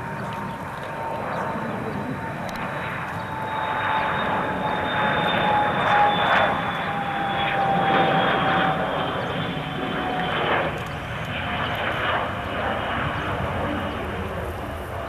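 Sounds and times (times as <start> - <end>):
jet engines passing with whine: 0.0 - 15.0.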